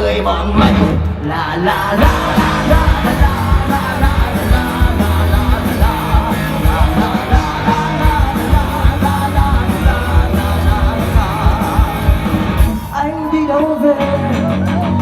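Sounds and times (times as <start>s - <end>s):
electric guitar: 0.0s - 15.0s
live rock band: 0.0s - 15.0s
drums beat: 0.6s - 13.1s.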